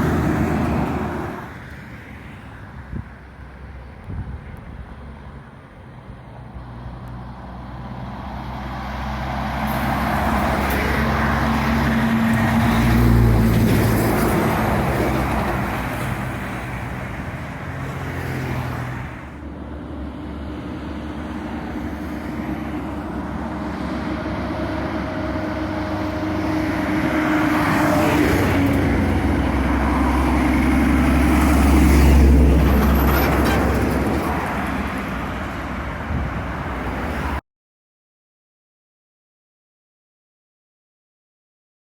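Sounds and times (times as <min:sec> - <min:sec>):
diesel trucks driving past: 0:00.0 - 0:37.4.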